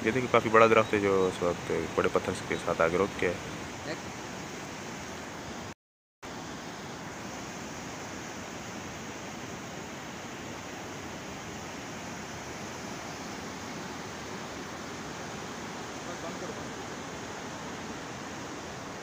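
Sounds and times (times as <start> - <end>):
river torrent rushing over boulders: 0.0 - 5.7, 6.3 - 19.0.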